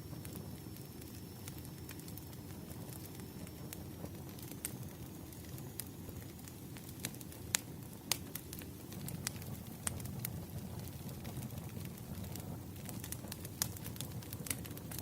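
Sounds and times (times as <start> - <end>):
low rumble of burning logs: 0.0 - 15.0
wood fire crackling and popping: 0.0 - 15.0.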